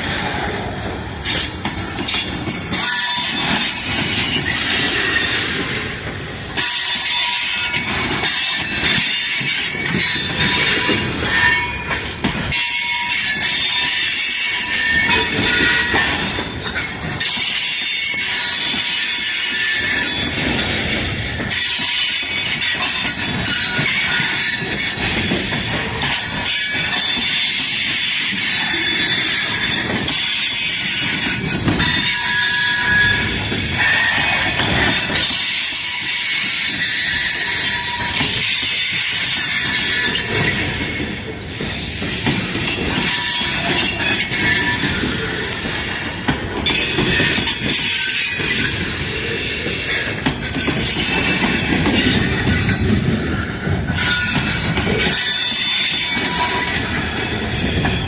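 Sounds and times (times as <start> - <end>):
train wheel flanges squealing: 0.0 - 58.0
train wheels rumbling and clacking: 0.0 - 58.0.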